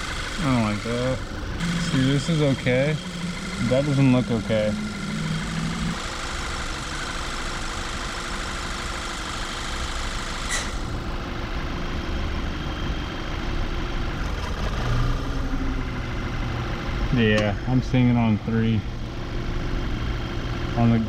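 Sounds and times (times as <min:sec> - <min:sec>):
car engine idling with misfire: 0:00.0 - 0:21.0.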